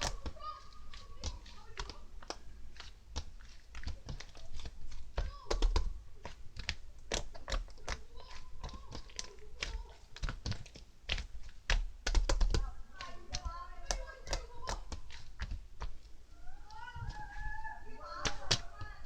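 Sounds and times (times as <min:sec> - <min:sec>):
rapid irregular clicking and tapping: 0:00.0 - 0:19.0.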